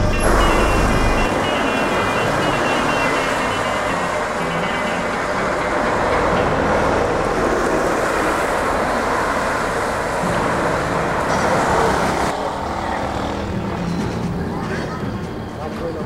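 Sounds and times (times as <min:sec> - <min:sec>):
traffic driving by: 0:00.0 - 0:16.0.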